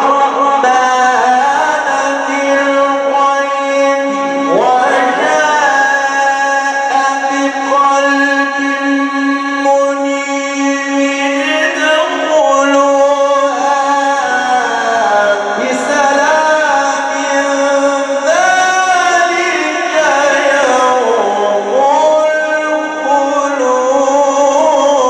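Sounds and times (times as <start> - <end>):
man chanting melodically: 0.0 - 25.0.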